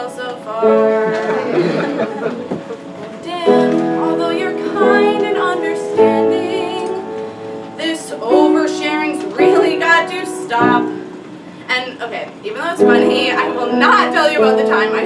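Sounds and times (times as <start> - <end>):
woman singing: 0.0 - 1.6, 3.2 - 11.1, 11.7 - 15.0
instrumental accompaniment: 0.0 - 11.7, 12.8 - 15.0.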